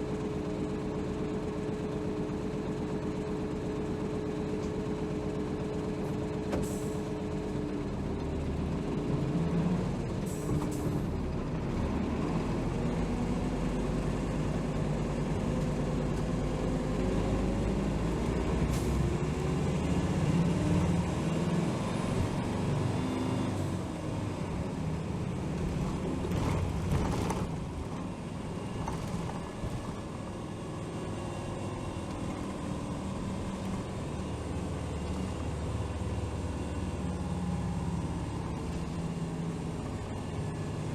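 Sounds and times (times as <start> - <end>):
bus diesel engine accelerating: 0.0 - 40.9
road noise: 5.7 - 40.9.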